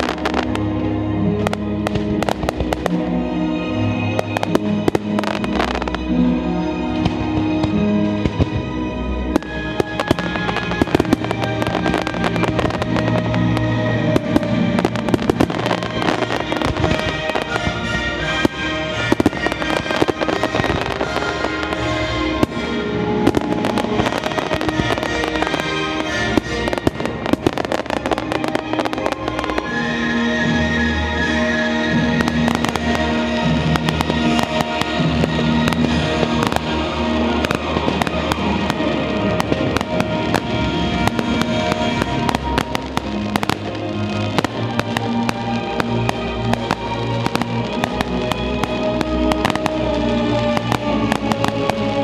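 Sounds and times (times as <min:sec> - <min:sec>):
fireworks bangs and crackles: 0:00.0 - 0:52.0
music playing: 0:00.0 - 0:52.0.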